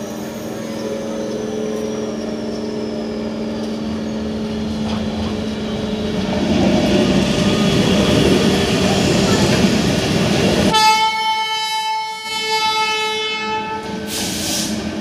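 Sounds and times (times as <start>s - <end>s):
electric locomotive hum: 0.0s - 15.0s.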